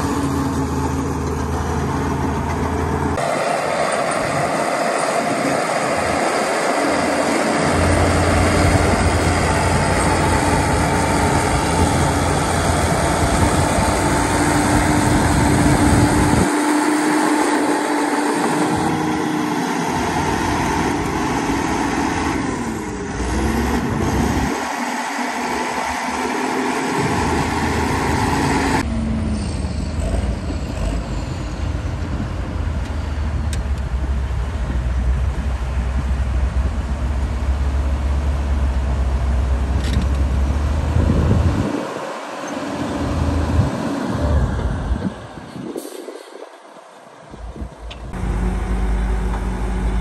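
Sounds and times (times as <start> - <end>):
heavy diesel machinery engine drone: 0.0 - 50.0.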